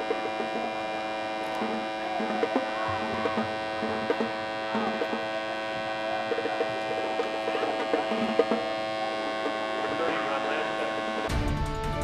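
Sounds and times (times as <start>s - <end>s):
electric buzz of vibrating game board: 0.0s - 11.6s.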